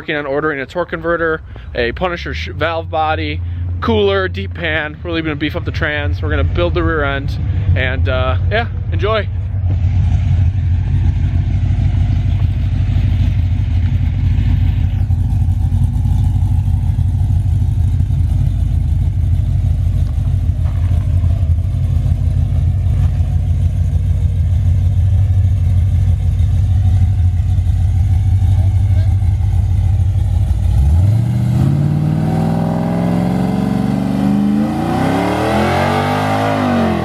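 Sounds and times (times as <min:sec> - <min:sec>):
pickup engine low exhaust note: 0:00.0 - 0:37.0.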